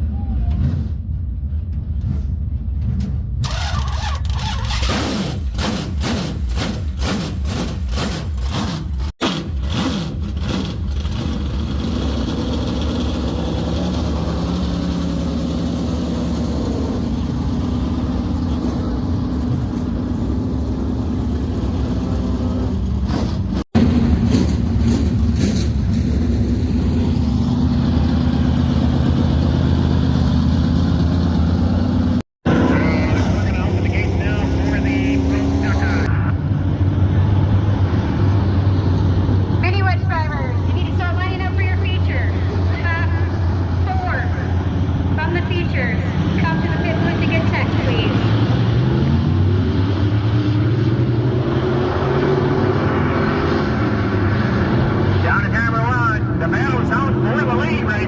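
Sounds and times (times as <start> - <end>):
truck engine running: 0.0 - 49.6.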